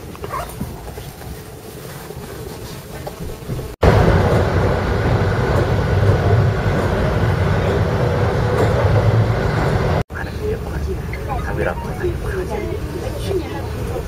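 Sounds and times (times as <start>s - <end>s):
train rumble and wheel-on-rail noise: 0.0s - 14.0s.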